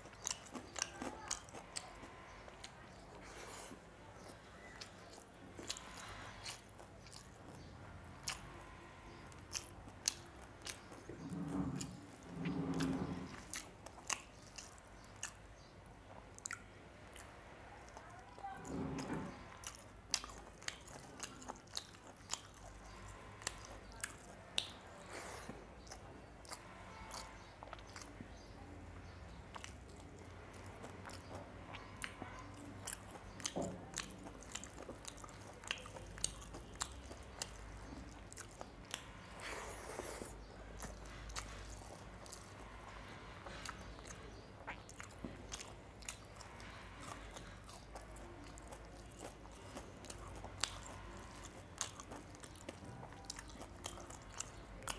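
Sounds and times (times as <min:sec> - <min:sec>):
chewing with wet mouth clicks: 0:00.0 - 0:08.5, 0:09.1 - 0:54.9.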